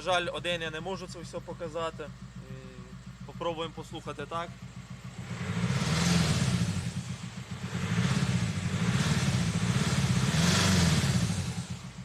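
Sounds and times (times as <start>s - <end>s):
diesel engine revving with knocking: 0.0s - 12.0s.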